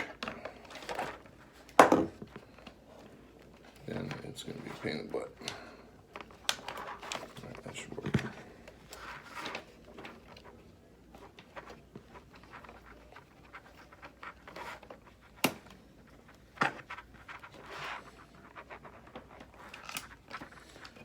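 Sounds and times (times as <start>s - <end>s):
plastic parts clicking and scraping: 0.0s - 10.6s, 11.2s - 21.0s.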